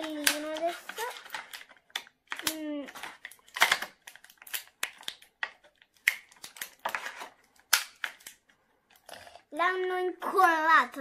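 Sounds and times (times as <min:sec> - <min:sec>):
plastic doll clicks and rustles: 0:00.0 - 0:11.0.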